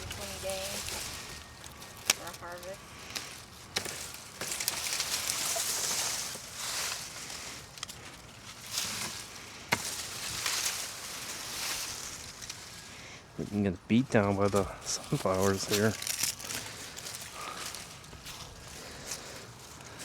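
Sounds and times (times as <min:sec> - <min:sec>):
foliage rustling: 0:00.0 - 0:20.0.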